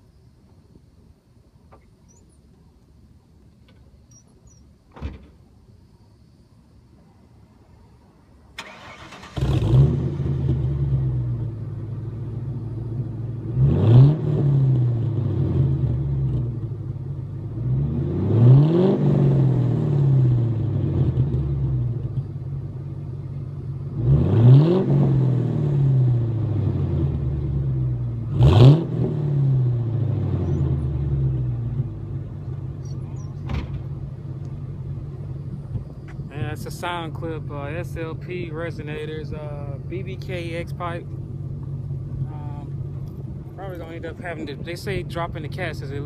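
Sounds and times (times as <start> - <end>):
car engine starting and revving: 8.6 - 46.0.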